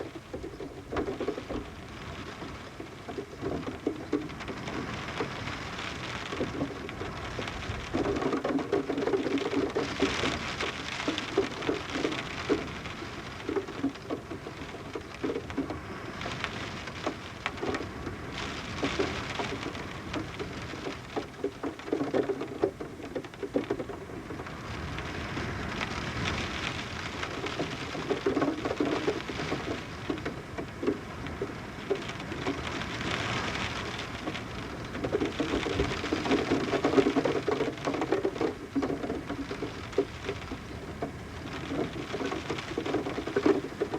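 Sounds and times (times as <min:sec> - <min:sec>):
rain pattering on window: 0:00.0 - 0:43.9
water dripping off roof: 0:00.0 - 0:43.9.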